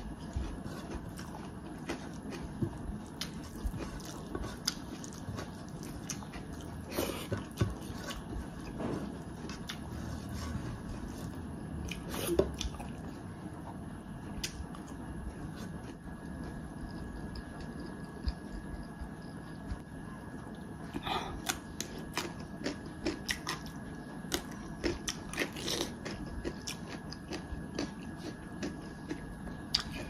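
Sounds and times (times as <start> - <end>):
person chewing: 0.0 - 13.8, 14.4 - 19.8, 20.4 - 30.0.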